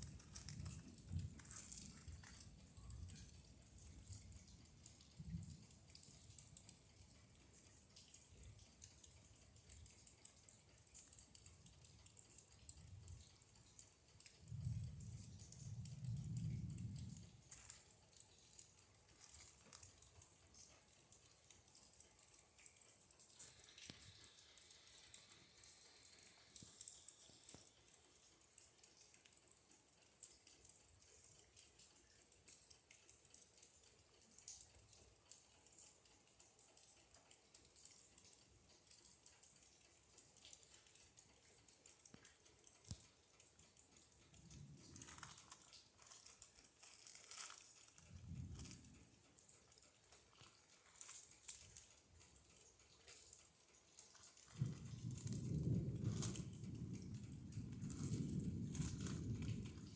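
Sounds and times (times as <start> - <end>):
rain pattering: 0.0 - 59.9
small drips: 0.0 - 59.9.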